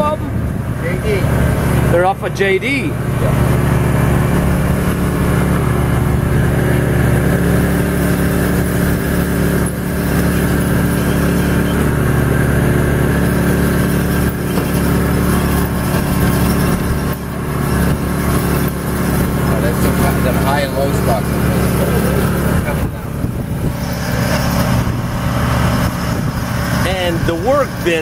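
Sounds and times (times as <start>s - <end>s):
generator running: 0.0s - 28.0s
honing machine running: 1.3s - 28.0s.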